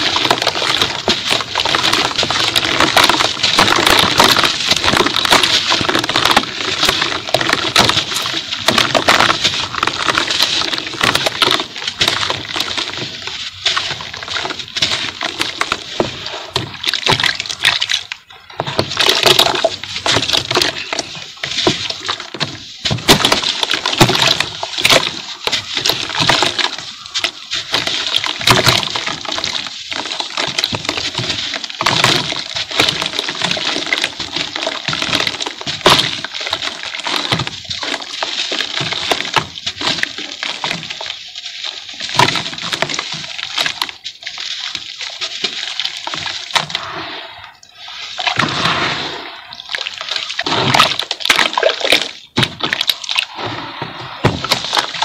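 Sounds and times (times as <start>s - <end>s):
cement chunks crushed and crackling: 0.0s - 55.0s
water splashing and sloshing: 0.0s - 55.0s.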